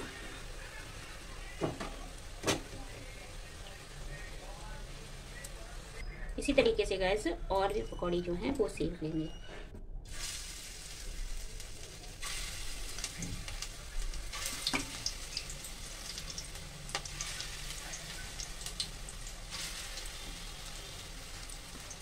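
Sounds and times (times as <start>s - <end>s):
batter sizzling in hot oil: 0.0s - 6.0s, 10.1s - 22.0s.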